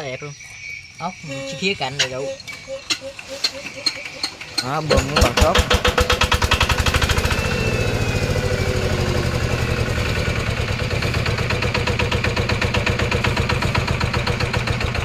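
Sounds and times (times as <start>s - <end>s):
diesel engine running: 1.1s - 15.0s.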